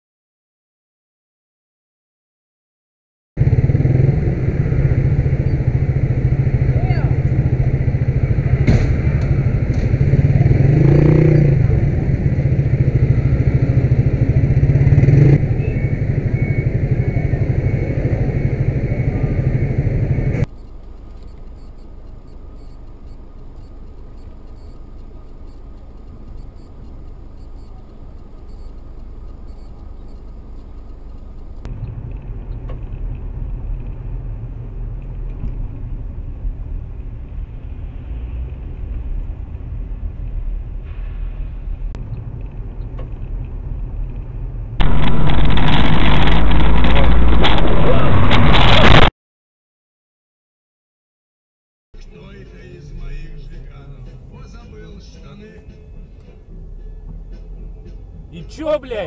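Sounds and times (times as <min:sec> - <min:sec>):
car engines and road rumble: 0:03.4 - 0:49.1, 0:52.0 - 0:59.0.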